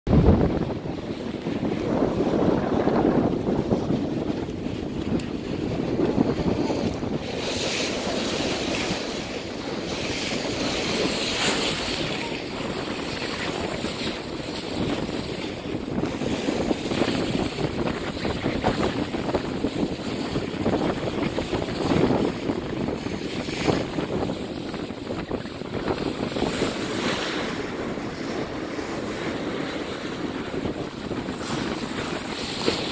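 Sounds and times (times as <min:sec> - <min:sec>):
sea water against boat hull: 0:00.1 - 0:32.9
wind buffeting microphone: 0:00.1 - 0:32.9.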